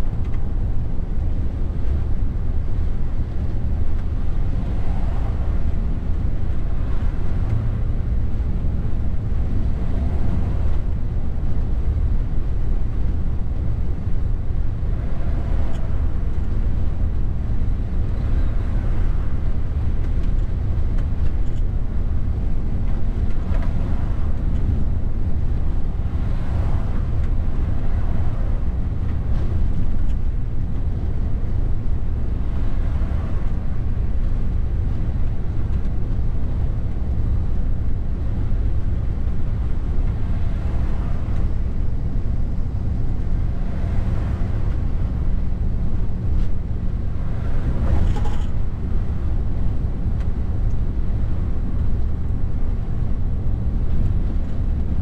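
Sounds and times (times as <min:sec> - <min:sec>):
truck engine drone: 0:00.0 - 0:55.0
tyre and road noise: 0:00.0 - 0:55.0.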